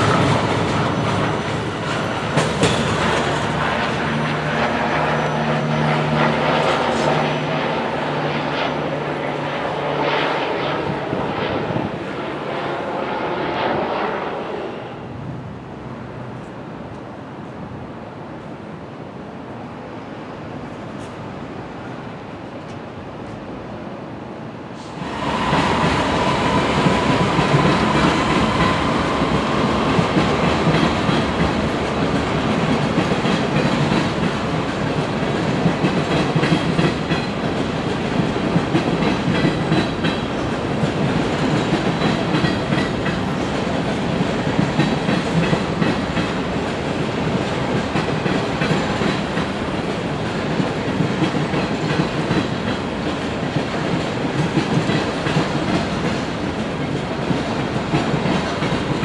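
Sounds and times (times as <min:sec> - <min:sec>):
train wheels rumbling on rails: 0:00.0 - 0:17.4, 0:24.6 - 0:59.0.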